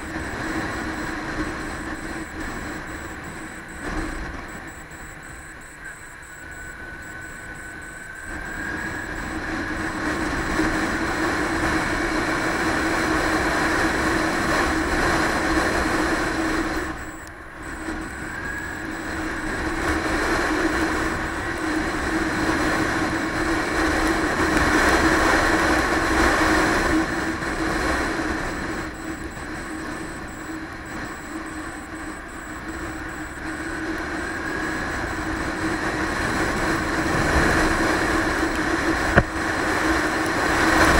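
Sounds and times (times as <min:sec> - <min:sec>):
motorcycle engine hum: 0:00.0 - 0:40.9.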